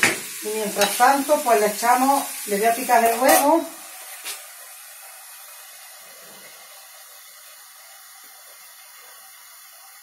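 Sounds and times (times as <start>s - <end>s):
filling sizzling in a pan: 0.0s - 10.0s.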